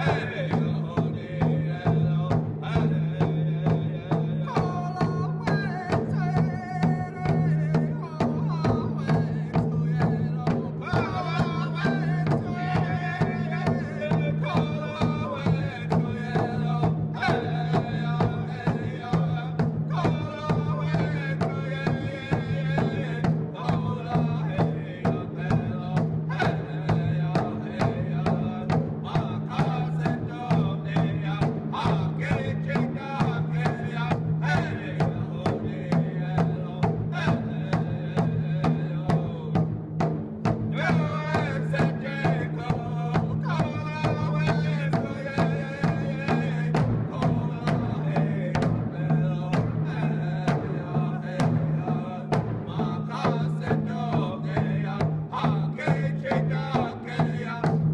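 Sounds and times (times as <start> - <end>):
steady drum beat: 0.0 - 57.9.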